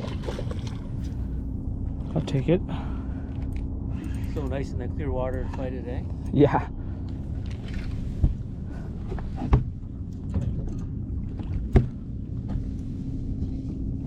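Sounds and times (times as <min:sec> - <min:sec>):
boat engine low hum: 0:00.0 - 0:14.0.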